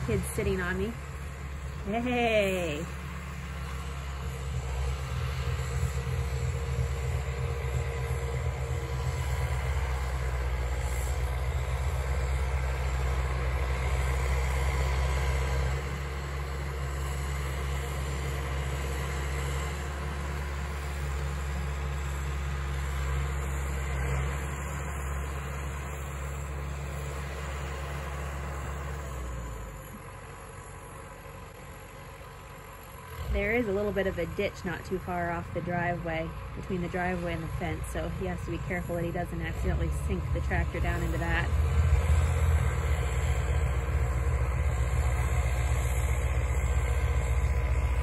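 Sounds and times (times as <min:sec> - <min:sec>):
distant tractor engine rumble: 0:00.0 - 0:48.0.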